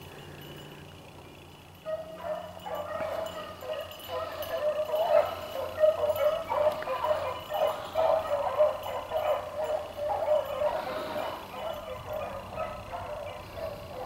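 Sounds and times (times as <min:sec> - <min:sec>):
hounds baying: 0:00.0 - 0:14.0.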